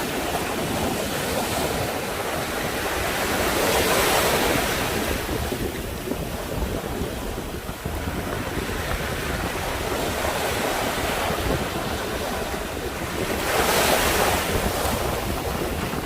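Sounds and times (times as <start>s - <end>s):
waves washing onto shore: 0.0s - 16.0s
wind buffeting microphone: 0.0s - 16.0s.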